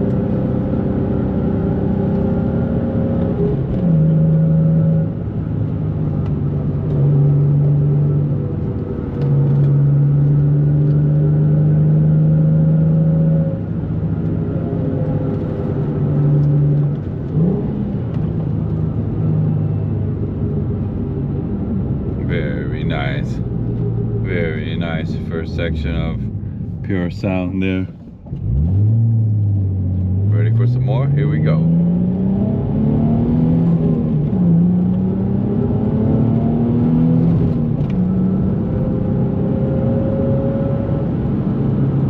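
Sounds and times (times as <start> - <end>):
car engine and exhaust drone: 0.0 - 42.0.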